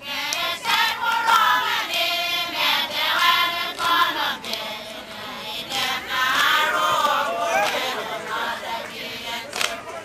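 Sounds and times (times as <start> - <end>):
women chanting in unison: 0.0 - 9.5.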